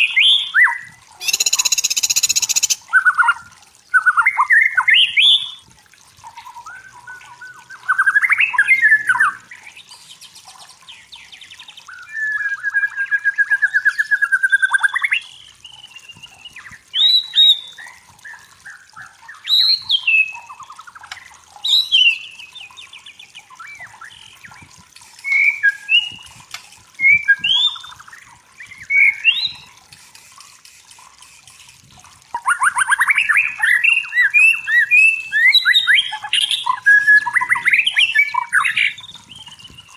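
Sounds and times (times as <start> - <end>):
songbird whistling and trilling: 0.0 - 5.6, 6.3 - 26.4, 27.0 - 29.8, 32.3 - 39.9.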